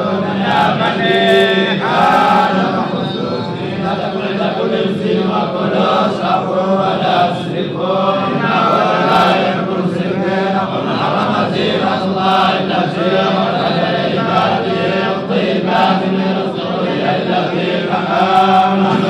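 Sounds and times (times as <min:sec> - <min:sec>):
man chanting recitation: 0:00.0 - 0:19.0.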